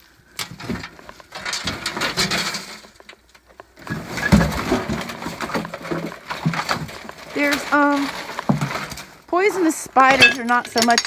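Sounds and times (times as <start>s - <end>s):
rummaging through junk: 0.3s - 11.0s.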